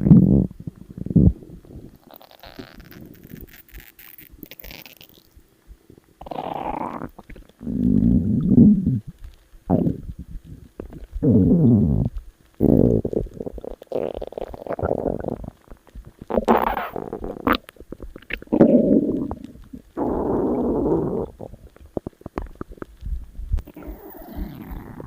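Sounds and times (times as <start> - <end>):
stomach growling: 0.0 - 25.0.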